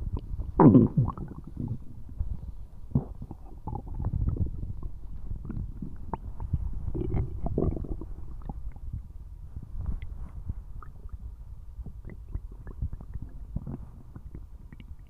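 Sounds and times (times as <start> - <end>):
stomach rumbling and gurgling: 0.0 - 15.0.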